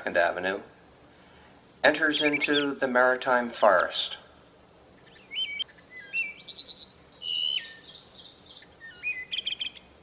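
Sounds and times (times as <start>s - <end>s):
songbirds singing: 0.0s - 10.0s.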